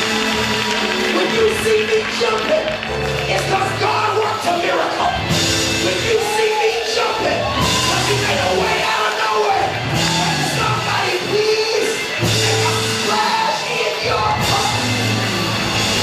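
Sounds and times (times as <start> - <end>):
live church music: 0.0 - 16.0.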